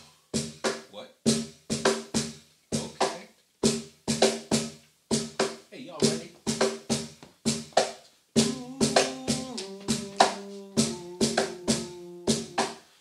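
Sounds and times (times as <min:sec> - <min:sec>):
hand percussion beat: 0:00.0 - 0:12.9.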